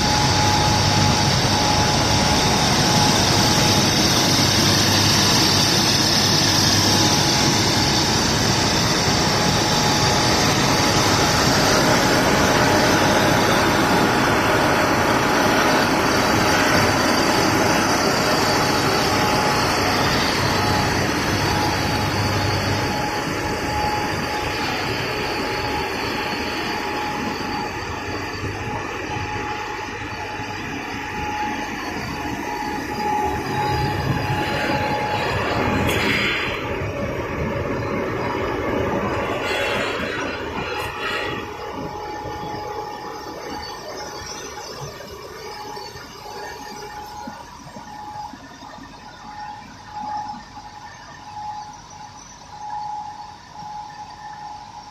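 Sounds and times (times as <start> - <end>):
machinery running: 0.0 - 54.9
thin steady whine: 0.0 - 54.9.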